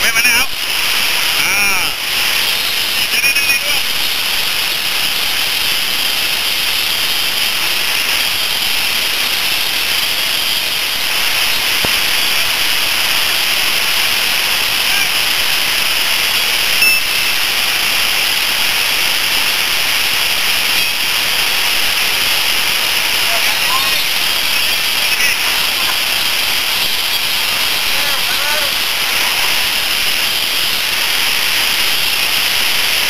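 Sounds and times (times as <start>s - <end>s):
loud steady hiss: 0.0s - 33.0s.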